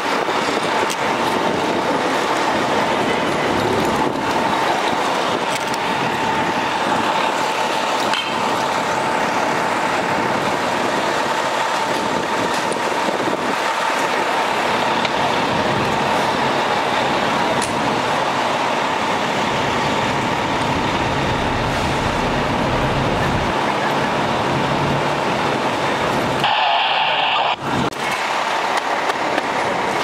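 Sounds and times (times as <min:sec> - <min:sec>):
fire engine running: 0:00.0 - 0:30.0.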